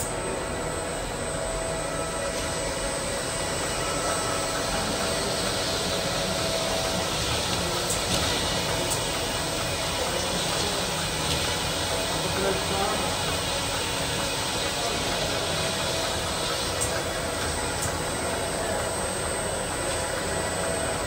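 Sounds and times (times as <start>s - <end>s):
machinery whirring: 0.0s - 21.0s.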